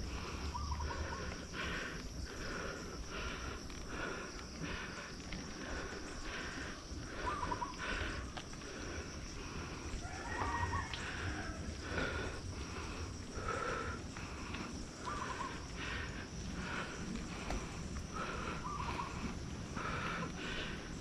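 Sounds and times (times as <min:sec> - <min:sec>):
person breathing hard: 0:00.0 - 0:21.0.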